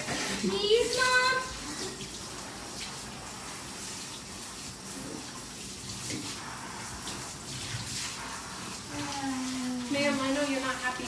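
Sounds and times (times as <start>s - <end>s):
tap water running into bathtub: 0.0s - 11.0s.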